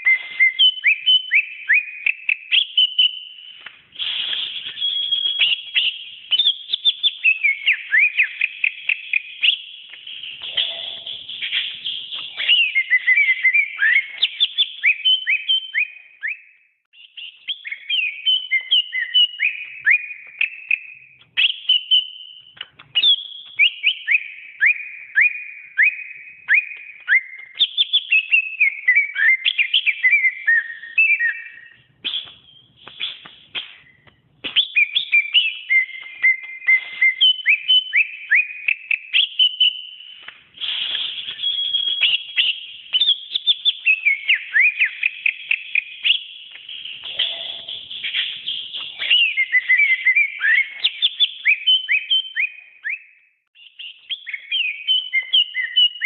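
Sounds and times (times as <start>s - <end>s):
bird singing whistles and chirps: 0.0s - 56.0s.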